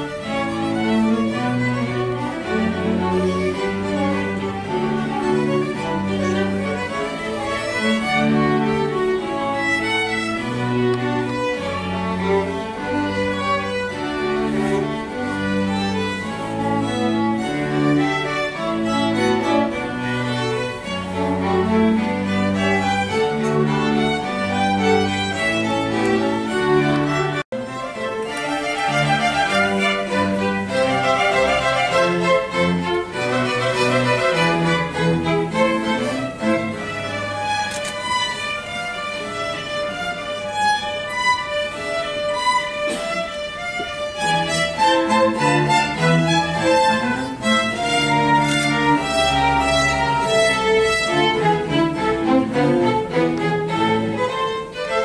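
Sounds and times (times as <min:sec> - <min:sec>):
string orchestra playing: 0:00.0 - 0:55.0.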